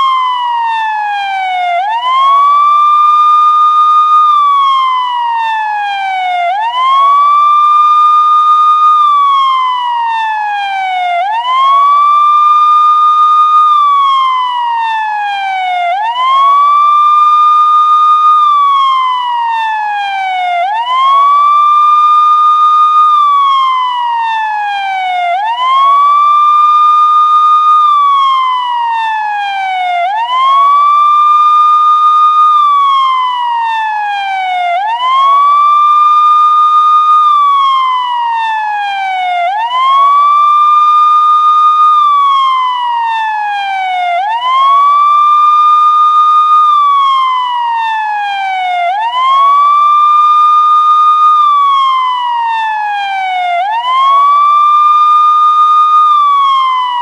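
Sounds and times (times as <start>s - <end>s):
police siren wailing: 0.0s - 57.0s.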